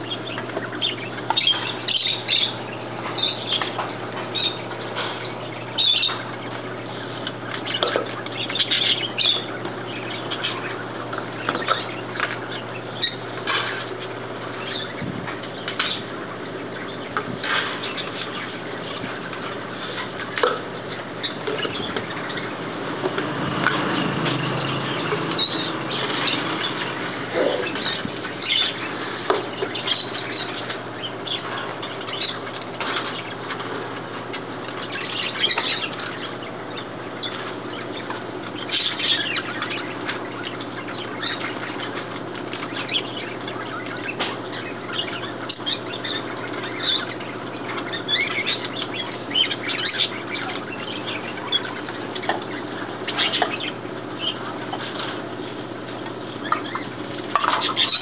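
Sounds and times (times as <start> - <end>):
chorus of birds chirping: 0.0 - 58.0.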